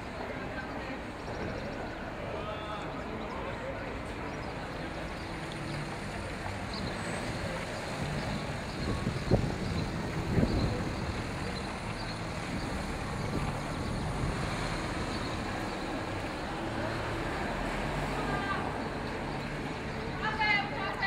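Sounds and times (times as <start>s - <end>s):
cars driving over cobblestones: 0.0s - 21.0s.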